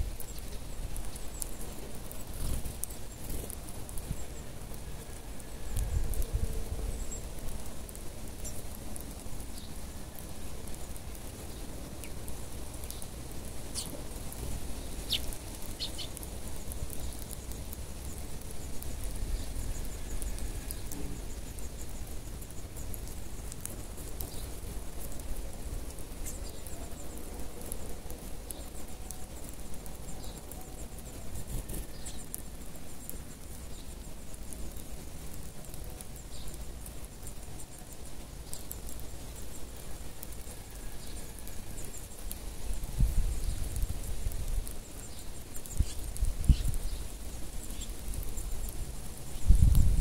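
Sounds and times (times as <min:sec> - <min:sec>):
sparrows chirping: 0:00.0 - 0:06.1, 0:06.7 - 0:49.7.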